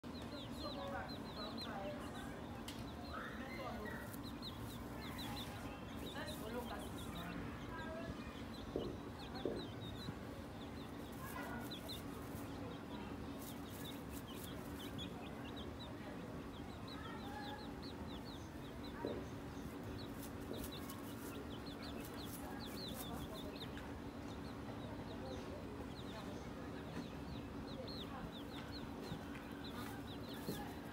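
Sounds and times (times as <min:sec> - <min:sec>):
chicks peeping: 0:00.0 - 0:30.9
steady low hum: 0:00.0 - 0:30.9.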